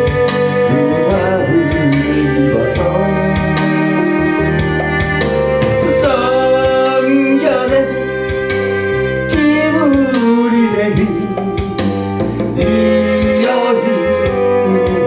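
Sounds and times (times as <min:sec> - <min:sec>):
instrumental accompaniment: 0:00.0 - 0:15.0
person singing gospel song: 0:00.0 - 0:15.0.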